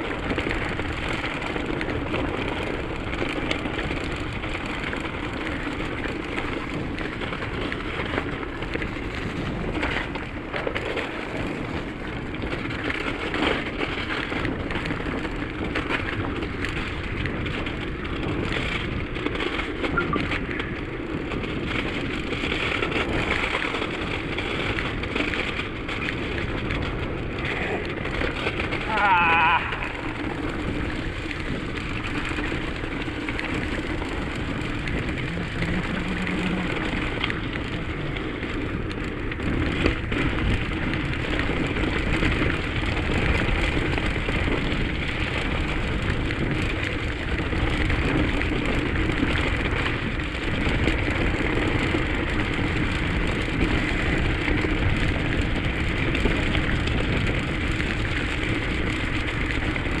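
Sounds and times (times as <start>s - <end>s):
bike tyres rolling on wet gravel: 0.0s - 60.0s.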